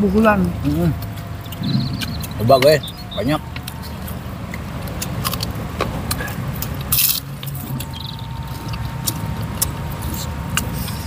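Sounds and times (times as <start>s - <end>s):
low rumble of road traffic: 0.0s - 11.0s
wet chewing and lip smacks: 0.4s - 11.0s.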